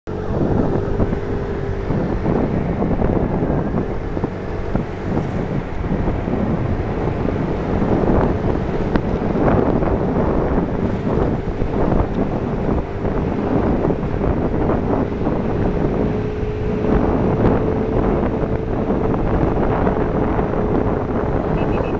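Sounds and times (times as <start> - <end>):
scooter engine humming: 0.1 - 21.9
wind rushing over microphone: 0.1 - 21.9.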